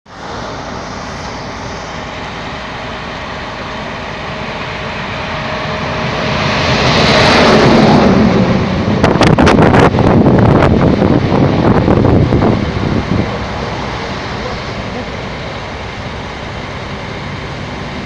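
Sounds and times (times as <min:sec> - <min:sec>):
vehicle running: 0:00.1 - 0:18.0.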